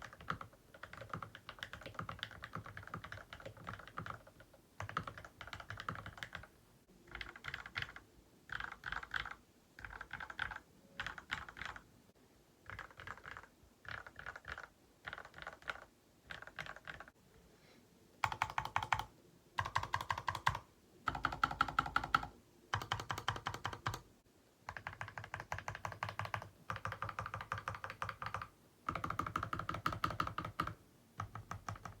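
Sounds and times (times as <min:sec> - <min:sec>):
mechanical keyboard typing: 0:00.0 - 0:11.8, 0:12.6 - 0:17.1, 0:18.2 - 0:24.0, 0:24.7 - 0:32.0.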